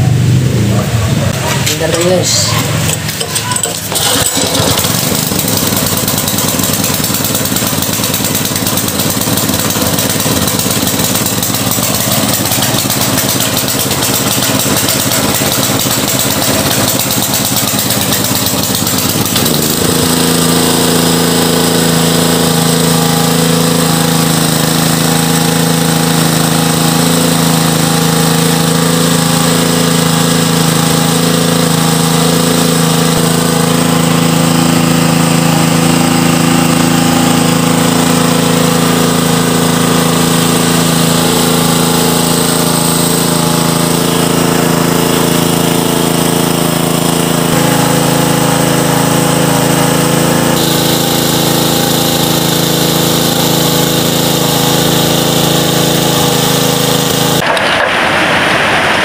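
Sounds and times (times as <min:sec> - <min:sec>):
pump engine running: 0:00.0 - 0:59.0.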